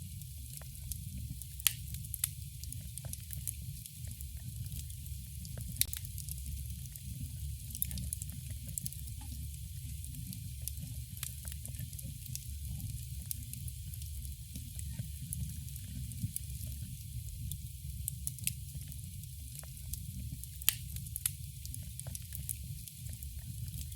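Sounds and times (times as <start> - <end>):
low rumble of flames: 0.0 - 23.9
wood crackling and popping: 0.2 - 23.9.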